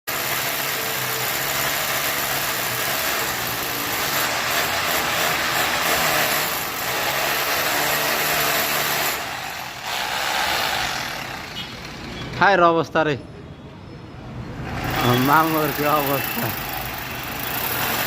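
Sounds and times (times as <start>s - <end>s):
construction machine running: 0.1s - 12.3s, 14.6s - 18.0s.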